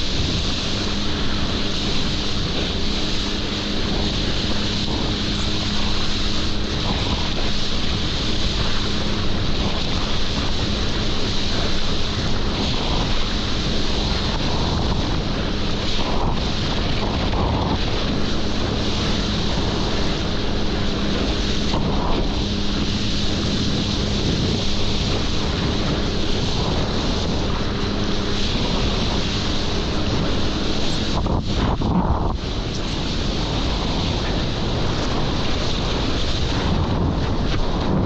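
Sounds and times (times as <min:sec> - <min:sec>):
jet ski engine hum: 0:00.0 - 0:38.0
water rushing: 0:00.0 - 0:38.0
wind buffeting microphone: 0:00.0 - 0:38.0.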